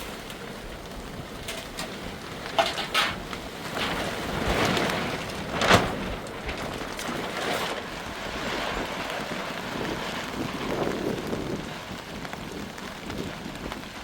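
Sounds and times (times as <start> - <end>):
heavy rain: 0.0 - 14.0
wind buffeting microphone: 0.0 - 14.0.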